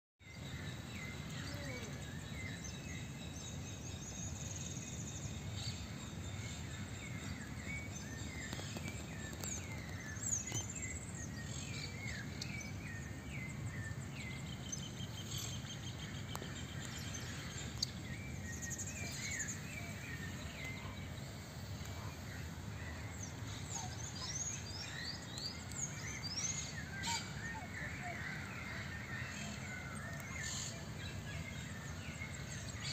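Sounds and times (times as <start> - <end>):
small birds chirping: 0.2 - 32.9.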